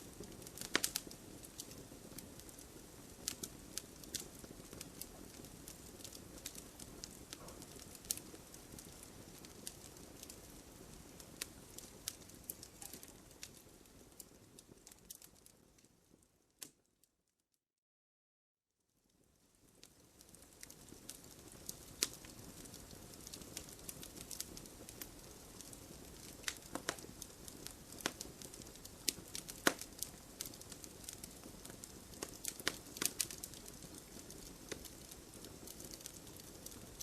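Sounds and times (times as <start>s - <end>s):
wood fire crackling: 0.0s - 16.8s, 19.1s - 37.0s.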